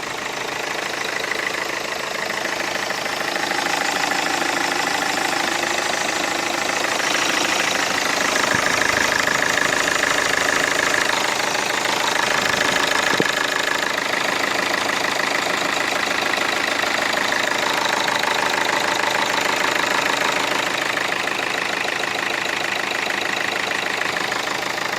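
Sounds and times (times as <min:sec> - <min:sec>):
diesel engine idling: 0:00.0 - 0:24.9
fuel injector knocking: 0:00.0 - 0:24.9.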